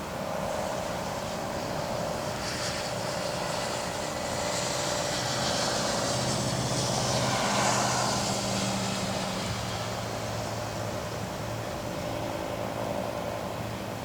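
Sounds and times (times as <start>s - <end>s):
vehicle passing on wet road: 0.0s - 14.0s.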